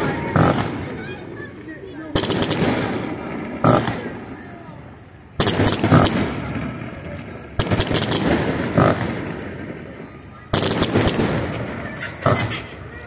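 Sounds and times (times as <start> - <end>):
fireworks booming: 0.0 - 13.0
fireworks crackling: 0.0 - 13.0.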